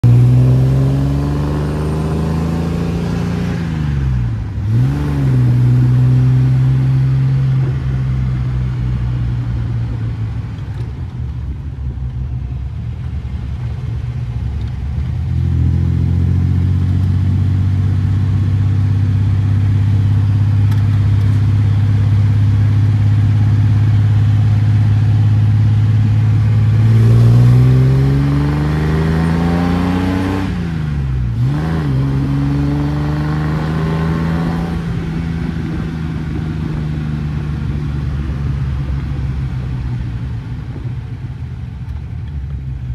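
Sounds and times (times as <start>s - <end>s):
car engine while driving: 0.0s - 42.9s.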